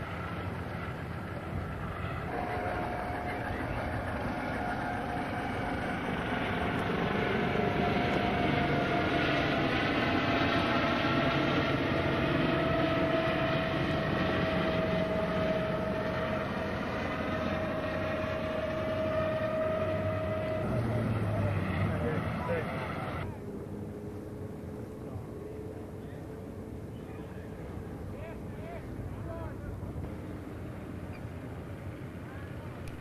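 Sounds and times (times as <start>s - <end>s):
boat engine whining: 0.0s - 33.0s.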